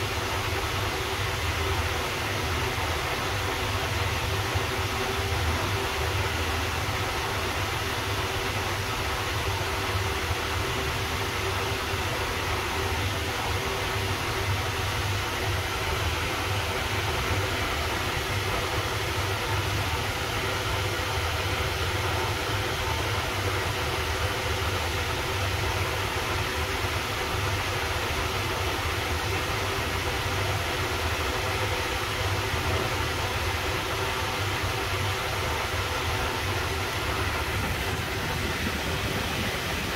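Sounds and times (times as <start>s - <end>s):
wall fan running: 0.0s - 39.9s.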